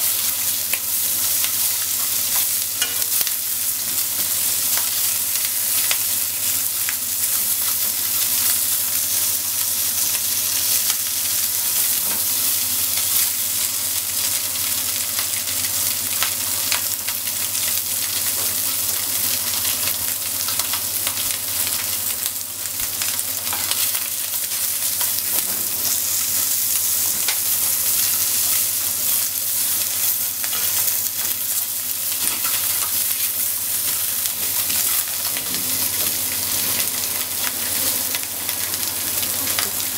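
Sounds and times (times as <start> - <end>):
sausages sizzling in oil: 0.0 - 39.9.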